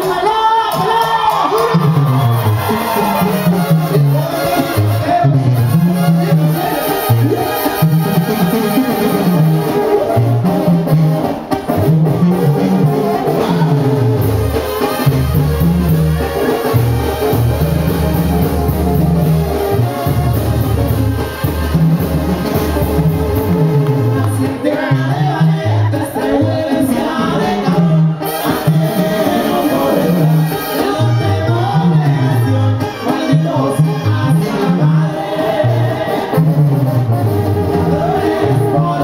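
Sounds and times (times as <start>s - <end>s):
trumpets and clarinets: 1.0s - 39.0s
tuba bass line: 1.7s - 39.0s.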